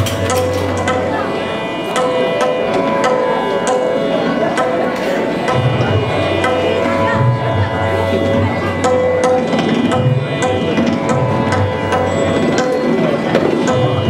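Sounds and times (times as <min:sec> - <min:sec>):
steady held notes: 0:00.0 - 0:14.0
tabla strokes: 0:00.0 - 0:14.0.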